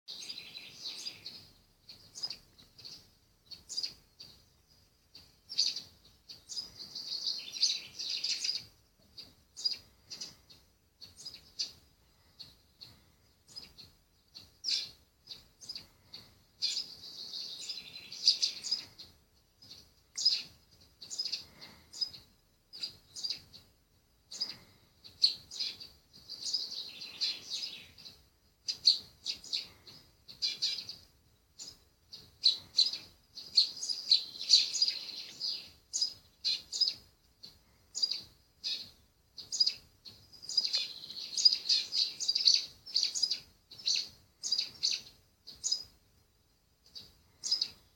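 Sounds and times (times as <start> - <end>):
birds chirping through speaker: 0.1 - 23.7, 24.3 - 45.9, 46.8 - 47.9.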